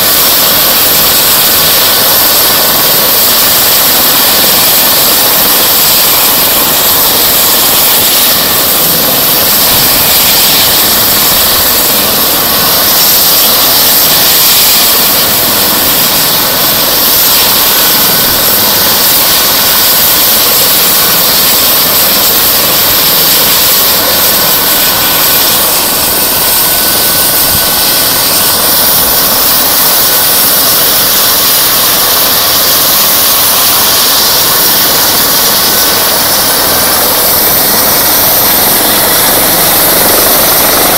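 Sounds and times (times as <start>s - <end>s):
helicopter turbine rush and whine: 0.0s - 40.9s.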